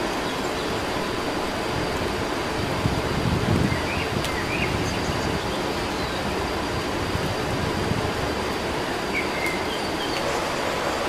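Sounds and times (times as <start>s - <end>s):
high-pitched whine: 0.0s - 11.0s
steady rushing outdoor noise: 0.0s - 11.0s.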